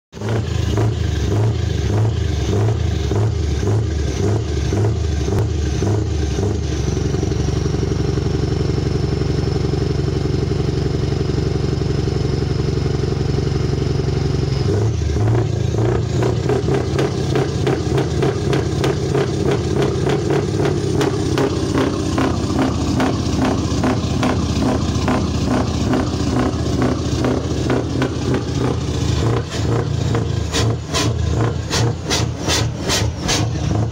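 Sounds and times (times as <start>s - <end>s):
diesel truck engine revving: 0.1s - 33.9s.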